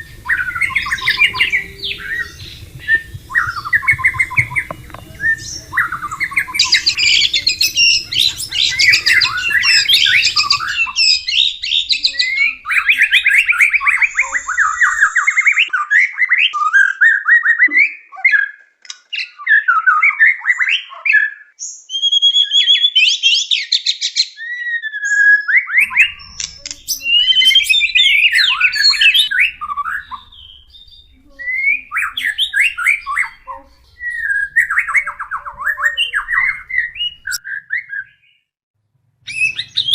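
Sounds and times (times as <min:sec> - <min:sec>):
songbird singing whistles and trills: 0:00.0 - 0:18.6, 0:19.2 - 0:38.5, 0:39.3 - 0:39.9.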